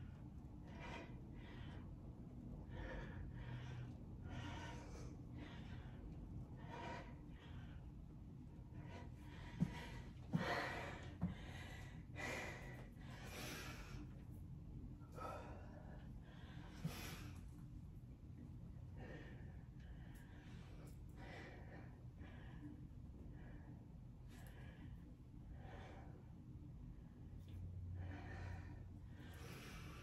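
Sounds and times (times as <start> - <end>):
woman breathing hard: 0.0 - 30.0.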